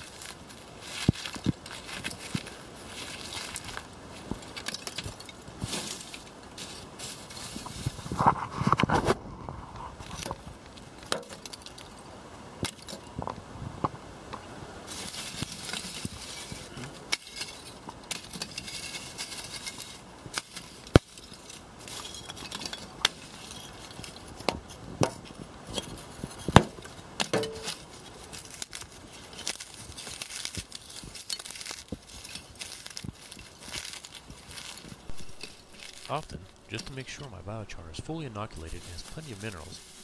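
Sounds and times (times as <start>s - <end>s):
charcoal chunks clinking: 0.0s - 8.1s, 10.0s - 12.0s, 12.6s - 13.1s, 14.9s - 36.9s, 38.6s - 40.0s
rustling: 0.0s - 12.0s, 14.9s - 40.0s.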